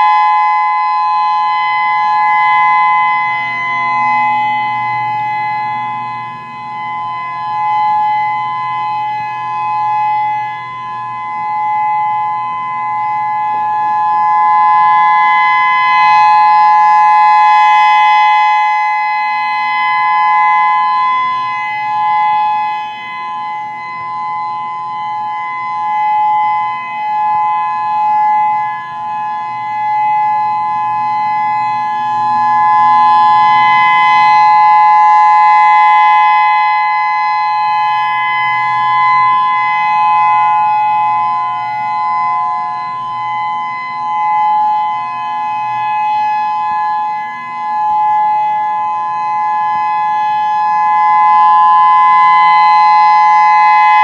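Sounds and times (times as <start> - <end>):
two-pitch warning siren: 0.0 - 54.0.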